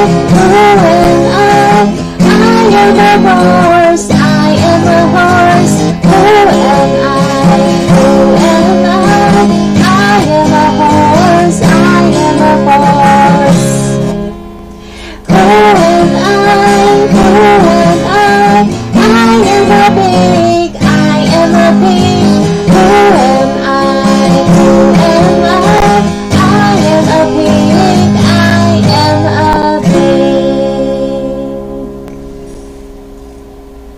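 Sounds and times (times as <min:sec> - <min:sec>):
background music with guitar: 0:00.0 - 0:33.9.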